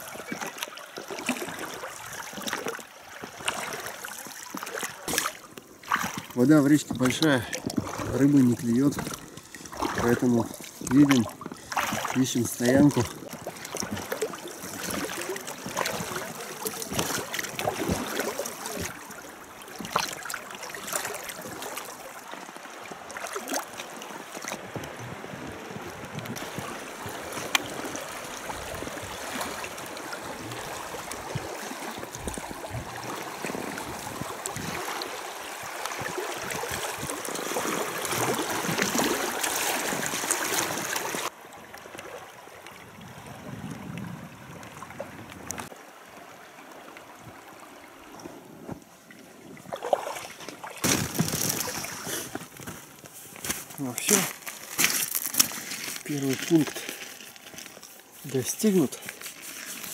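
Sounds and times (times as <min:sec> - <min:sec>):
river water rushing and splashing: 0:00.0 - 0:59.9.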